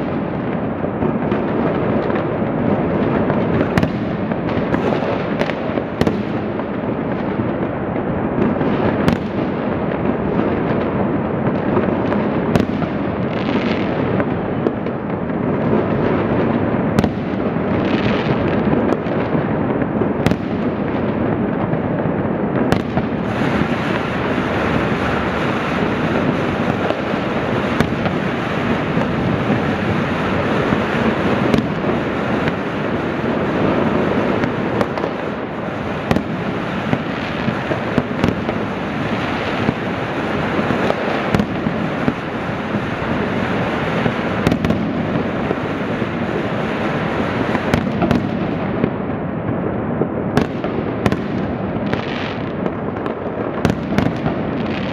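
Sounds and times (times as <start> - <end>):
firecrackers crackling: 0.0 - 54.9
fireworks bangs: 0.0 - 54.9.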